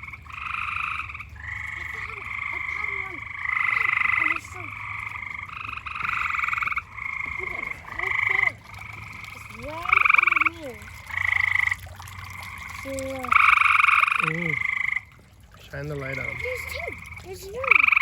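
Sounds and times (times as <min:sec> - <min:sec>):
tree frogs chirping: 0:00.0 - 0:18.0.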